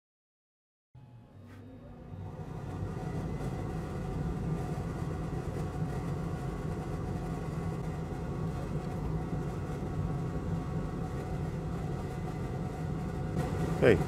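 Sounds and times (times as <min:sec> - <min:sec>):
faint constant tones: 0:01.0 - 0:14.0
low mechanical hum: 0:01.0 - 0:14.0.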